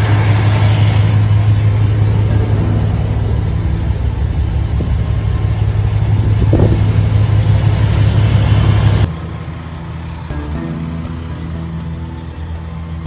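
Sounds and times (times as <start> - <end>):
diesel truck engine rumbling: 0.0 - 13.0
quiet steady hum: 0.0 - 13.0.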